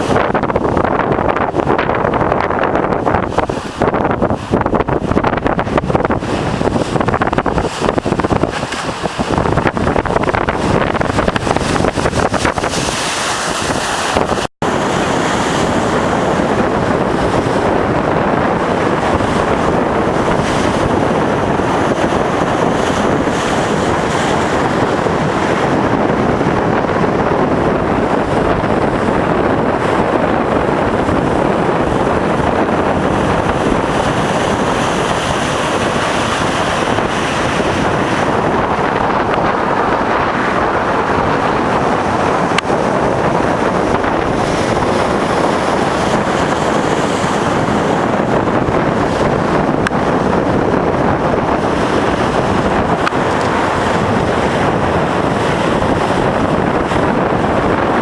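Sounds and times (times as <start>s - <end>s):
heavy surf crashing: 0.0s - 58.0s
wind buffeting microphone: 0.0s - 58.0s.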